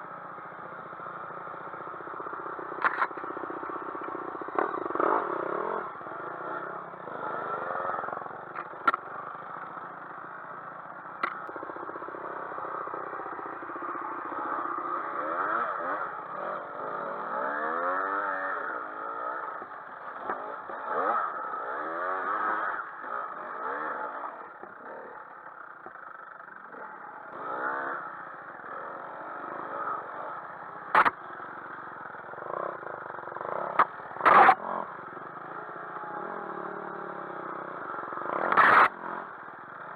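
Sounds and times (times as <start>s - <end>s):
dirt bike engine revving: 2.2s - 9.5s, 11.2s - 19.5s, 20.3s - 25.1s, 26.7s - 39.4s.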